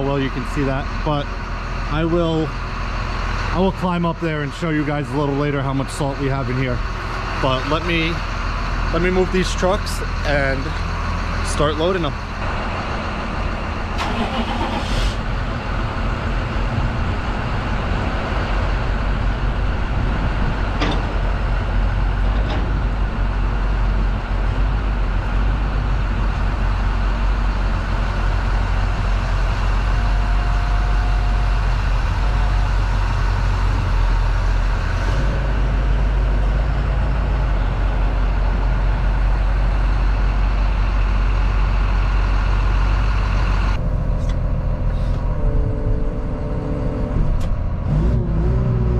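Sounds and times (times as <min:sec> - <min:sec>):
truck engine rumbling: 0:00.0 - 0:48.9.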